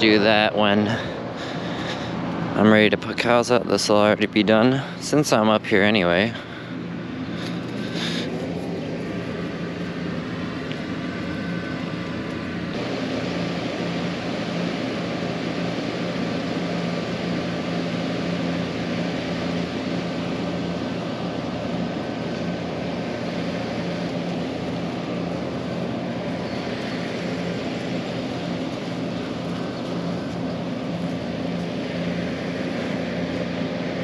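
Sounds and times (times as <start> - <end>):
engine droning: 0.0 - 34.0.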